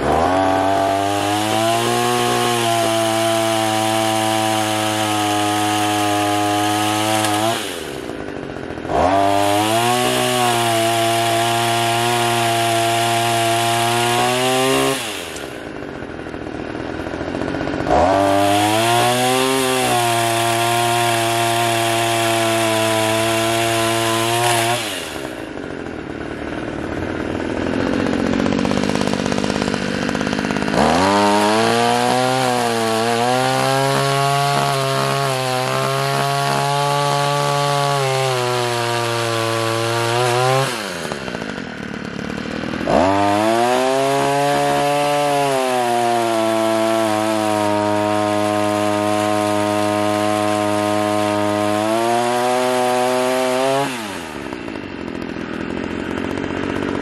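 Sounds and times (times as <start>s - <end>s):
pole saw engine cutting branches: 0.0s - 57.0s.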